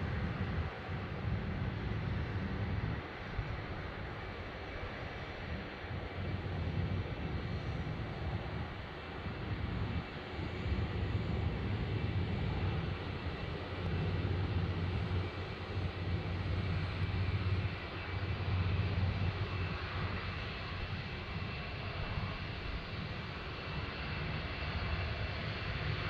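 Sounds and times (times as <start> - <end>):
faint high whine: 0.0 - 26.0
jet engines rumbling: 0.0 - 26.0.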